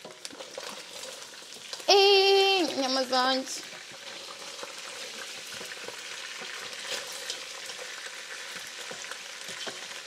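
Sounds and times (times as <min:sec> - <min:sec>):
wooden spoon scraping a pot: 0:00.0 - 0:01.8, 0:03.6 - 0:10.0
meat sizzling in a pot: 0:00.0 - 0:10.0.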